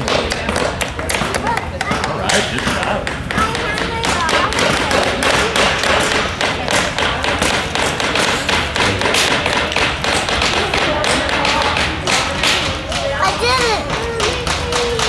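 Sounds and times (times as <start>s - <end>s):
hammer tapping nails into wood: 0.1s - 15.0s.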